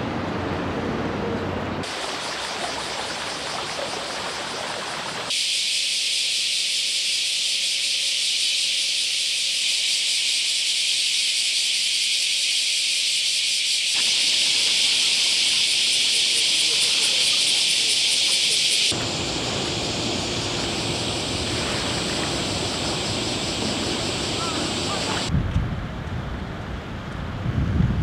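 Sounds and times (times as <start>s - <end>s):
outdoor hiss: 1.8s - 25.3s.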